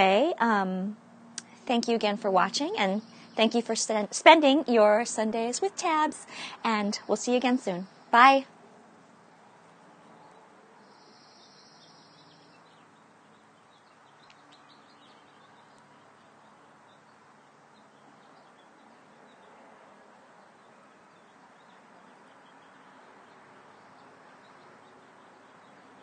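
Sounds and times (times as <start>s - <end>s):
distant bird chirps: 1.0s - 26.0s.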